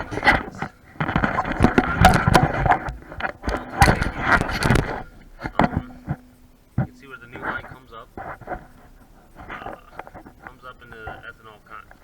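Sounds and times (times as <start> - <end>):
people talking: 0.0 - 6.2, 6.8 - 8.7, 9.4 - 12.0
scraping and rustling: 0.0 - 12.0
sharp clicks and knocks: 0.0 - 12.0.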